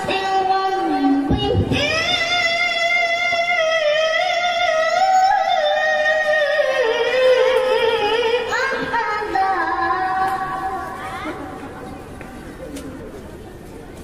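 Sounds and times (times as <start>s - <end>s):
boy's melodic recitation: 0.0s - 11.7s.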